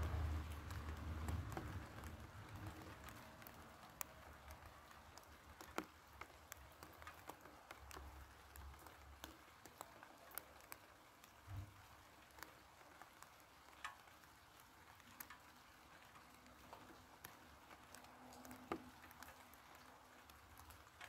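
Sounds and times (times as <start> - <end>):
raindrops ticking: 0.0 - 21.0
soft rain hiss: 0.0 - 21.0.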